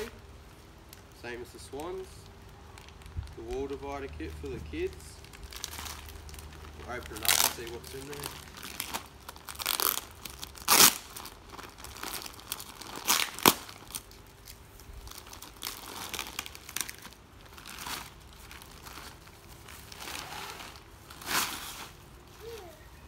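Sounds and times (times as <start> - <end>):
plastic packaging crinkling: 0.8 - 22.6.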